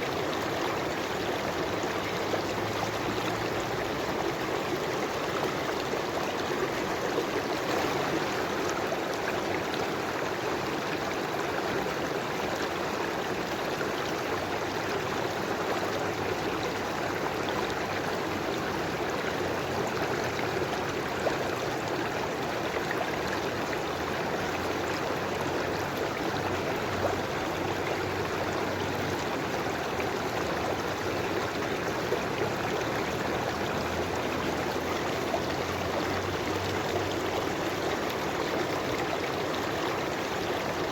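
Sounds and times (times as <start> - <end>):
river water flowing over stones: 0.0 - 40.9.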